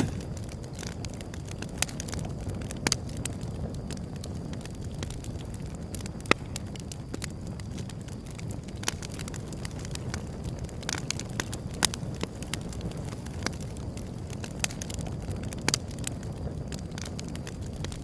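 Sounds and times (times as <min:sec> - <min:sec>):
crackles and pops of burning wood: 0:00.0 - 0:18.0
wood fire burning: 0:00.0 - 0:18.0.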